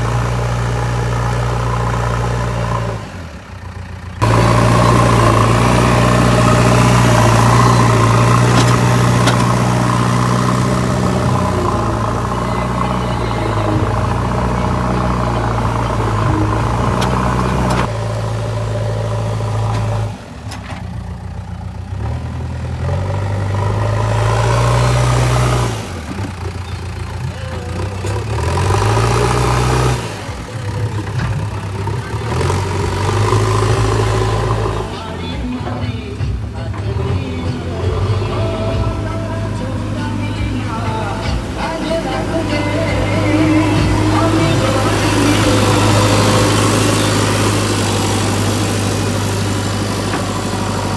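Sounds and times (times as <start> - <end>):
diesel engine revving: 0.0 - 50.9.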